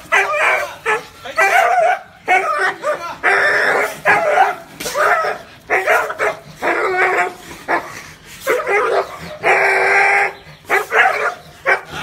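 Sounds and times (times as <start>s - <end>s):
dog barking: 0.1s - 9.8s, 10.7s - 12.0s.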